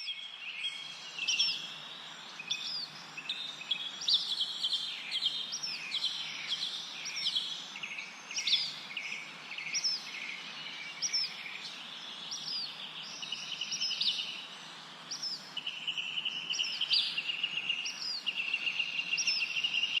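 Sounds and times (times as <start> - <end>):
background hiss: 0.0 - 20.0
songbirds chirping and trilling: 0.0 - 20.0.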